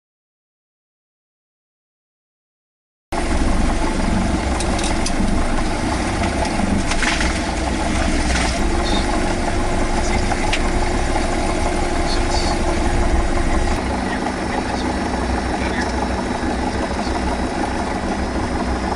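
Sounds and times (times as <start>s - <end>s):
propeller plane engine running: 3.2s - 18.9s.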